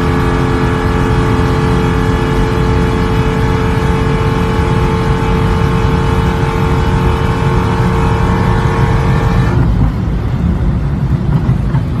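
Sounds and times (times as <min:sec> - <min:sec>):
supercharger whine: 0:00.0 - 0:11.6
low engine rumble: 0:00.0 - 0:12.0.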